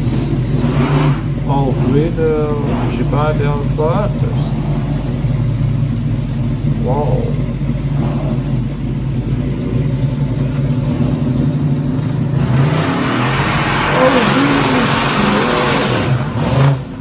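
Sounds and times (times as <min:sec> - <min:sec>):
car engine revving: 0:00.0 - 0:17.0
loud noisy rush: 0:00.0 - 0:17.0.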